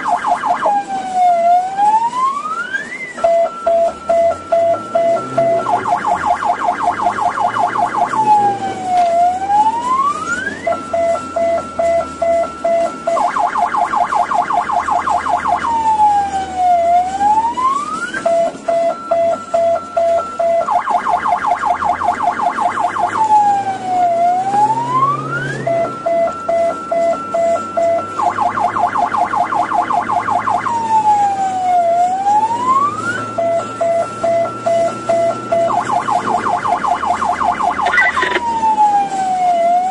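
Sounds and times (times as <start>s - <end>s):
ambulance electronic siren: 0.0s - 39.9s.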